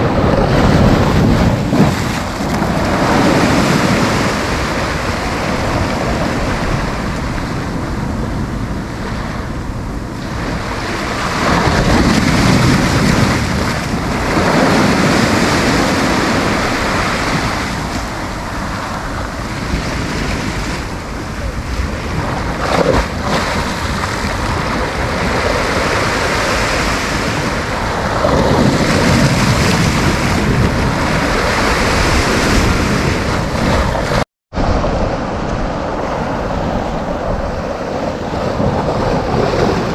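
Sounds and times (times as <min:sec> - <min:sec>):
sea waves breaking on beach: 0:00.0 - 0:39.9
wind buffeting microphone: 0:00.0 - 0:39.9.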